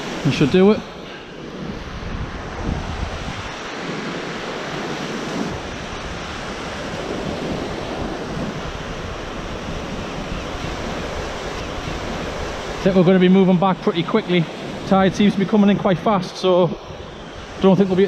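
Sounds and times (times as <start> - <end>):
sea waves washing ashore: 0.0 - 18.0
wind buffeting microphone: 0.0 - 18.0.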